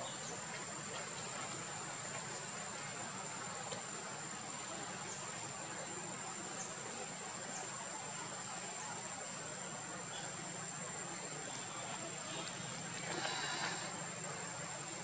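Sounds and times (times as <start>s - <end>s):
insect drone: 0.0s - 15.0s
steady hiss: 0.0s - 15.0s.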